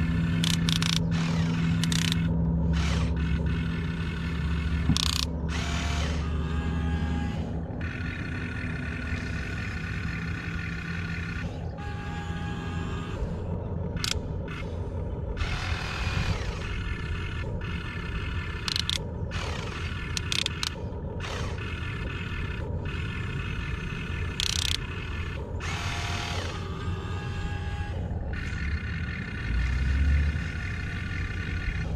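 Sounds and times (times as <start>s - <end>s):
electric motors whining: 0.0s - 31.9s
steady low rumble: 0.0s - 31.9s.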